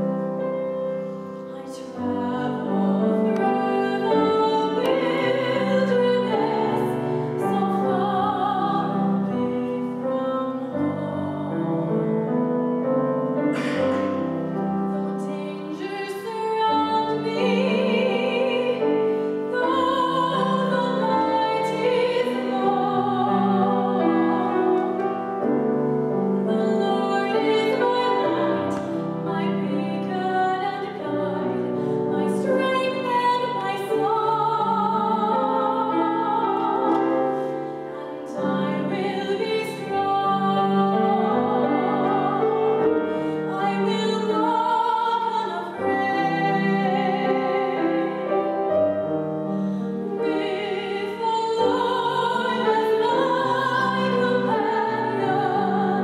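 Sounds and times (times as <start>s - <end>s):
piano accompaniment: 0.0s - 56.0s
woman singing classical song: 0.0s - 56.0s.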